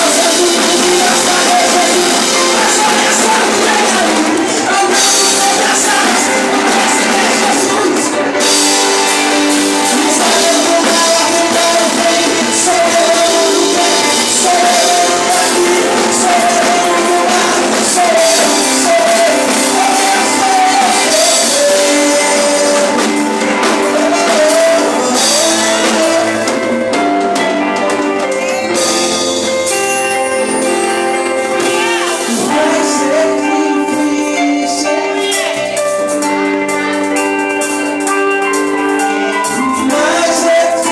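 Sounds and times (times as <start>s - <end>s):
drums: 0.0s - 40.9s
guitar: 0.0s - 40.9s
keyboard chords: 0.0s - 40.9s
person singing: 0.0s - 40.9s.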